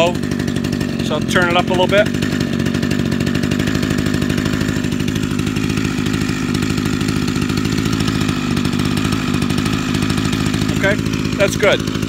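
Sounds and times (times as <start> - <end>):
hedge trimmer engine idling: 0.0 - 12.0.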